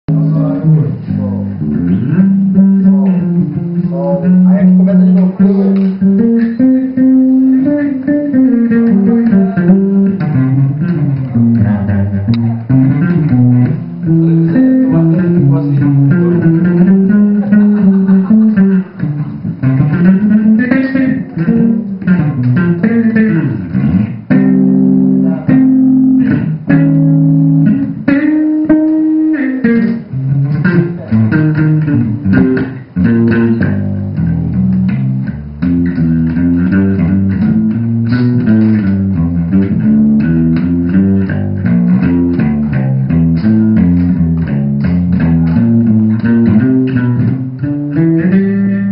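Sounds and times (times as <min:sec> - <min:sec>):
bass line: 0:00.0 - 0:48.9
guitar playing: 0:00.1 - 0:48.9.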